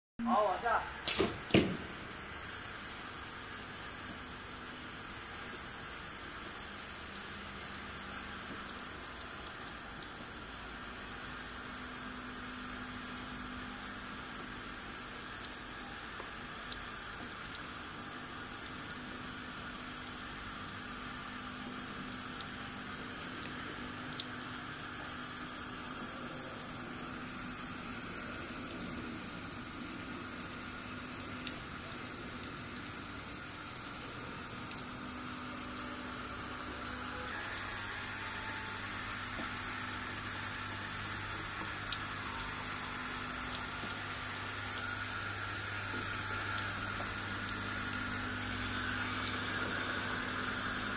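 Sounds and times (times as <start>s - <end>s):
water spraying on glass: 0.3s - 50.9s.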